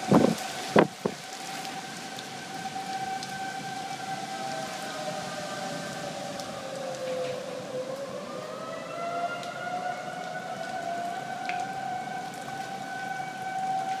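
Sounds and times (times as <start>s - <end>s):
rain hissing: 0.0s - 14.0s
warning sirens wailing: 0.0s - 14.0s.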